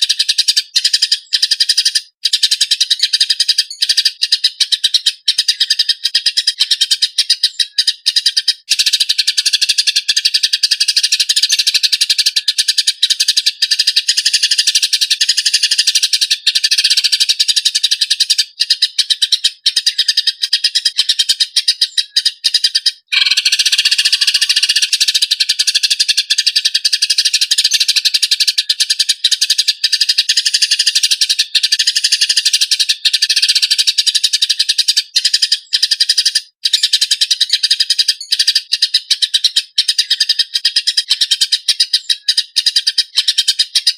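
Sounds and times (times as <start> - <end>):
sparrows harsh chirping: 0.0 - 43.9.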